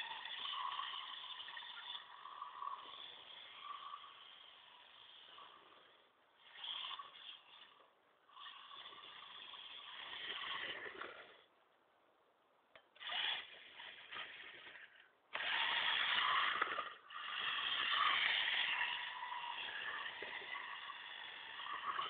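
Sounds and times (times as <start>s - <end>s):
rc car motor and gears whining: 0.0s - 11.5s, 12.7s - 22.0s.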